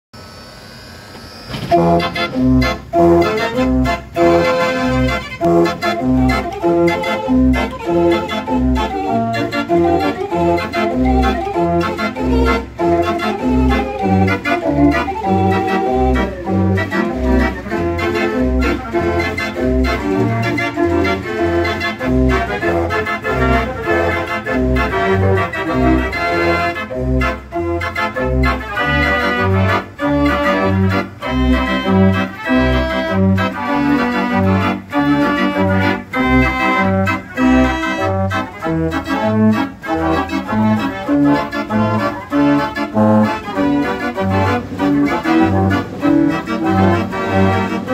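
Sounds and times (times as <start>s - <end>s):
dance organ playing a tune: 1.6s - 47.9s.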